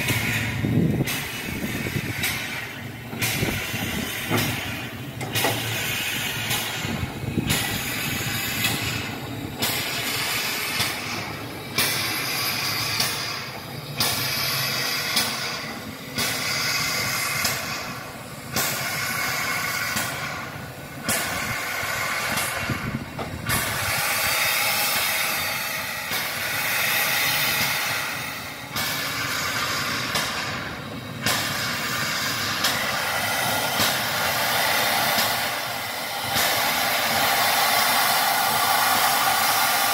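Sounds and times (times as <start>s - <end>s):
steam locomotive hissing: 0.0s - 39.9s.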